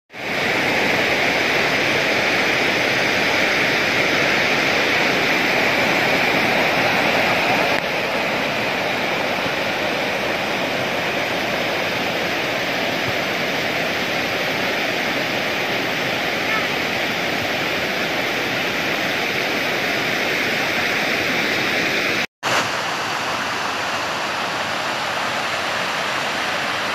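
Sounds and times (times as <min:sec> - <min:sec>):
water rushing over rocks: 0:00.1 - 0:26.9.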